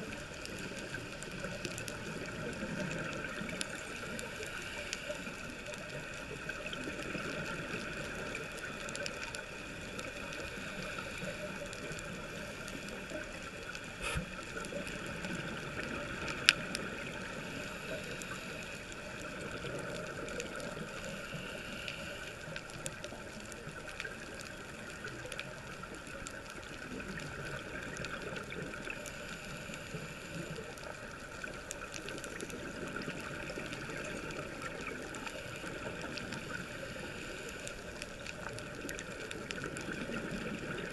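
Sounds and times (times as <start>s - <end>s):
muffled underwater hiss and rumble: 0.0s - 40.9s.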